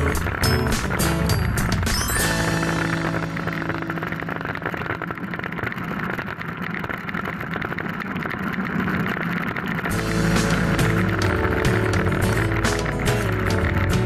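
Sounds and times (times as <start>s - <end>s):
bike ride rumble and rattling: 0.0s - 14.0s.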